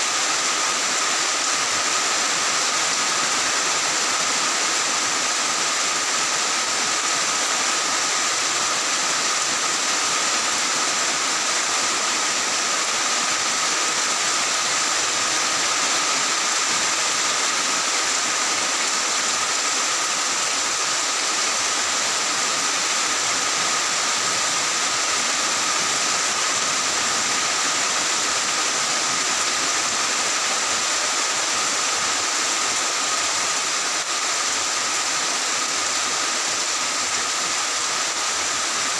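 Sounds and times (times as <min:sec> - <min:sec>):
heavy rain on tiled roofs: 0:00.0 - 0:38.9.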